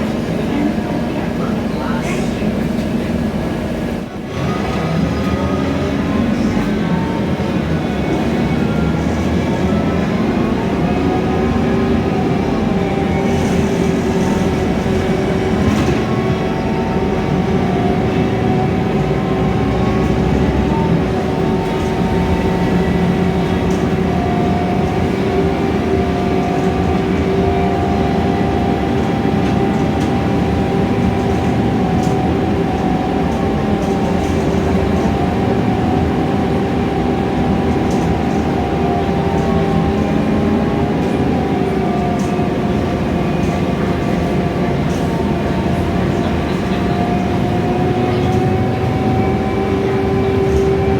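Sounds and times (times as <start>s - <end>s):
bus engine running with whine: 0.0s - 50.9s.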